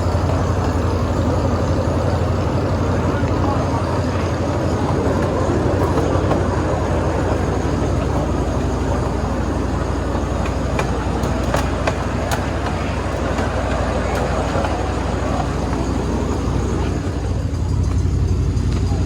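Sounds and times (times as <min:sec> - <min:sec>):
miniature train rumbling on track: 0:00.0 - 0:19.0.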